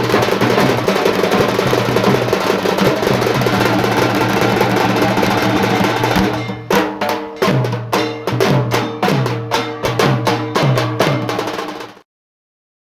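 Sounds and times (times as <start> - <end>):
drum strokes: 0.0 - 12.0.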